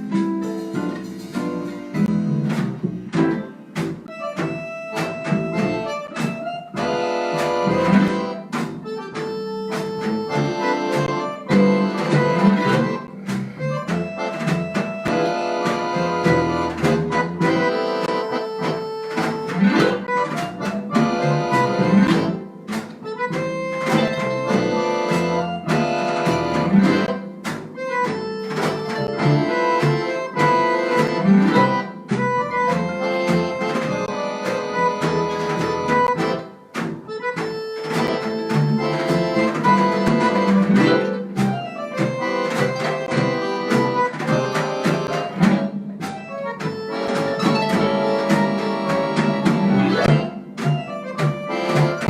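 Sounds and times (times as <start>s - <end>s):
harp jazz group playing: 0.0s - 52.0s.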